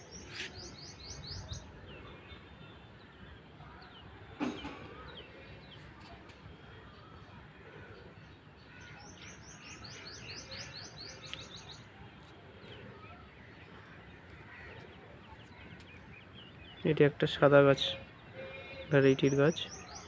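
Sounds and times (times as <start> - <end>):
low outdoor background noise: 0.0 - 20.0.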